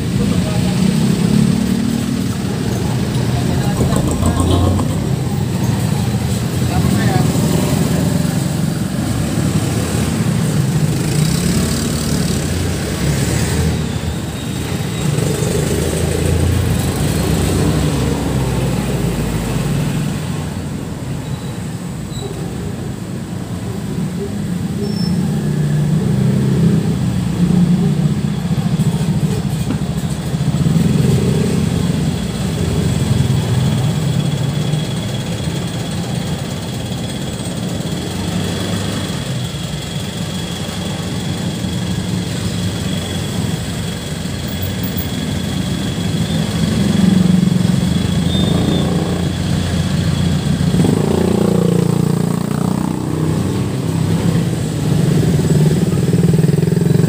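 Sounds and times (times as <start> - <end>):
vehicle engine noise: 0.0 - 57.0.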